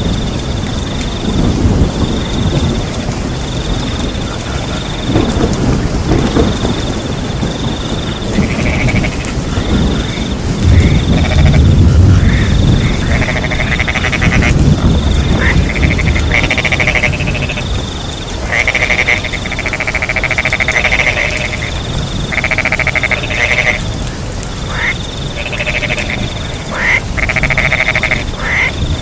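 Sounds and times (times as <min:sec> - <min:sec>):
crickets chirping: 0:00.0 - 0:29.0
frogs calling in trills: 0:00.0 - 0:29.0
low rumble of thunder: 0:00.0 - 0:29.0
steady rain: 0:00.0 - 0:29.0.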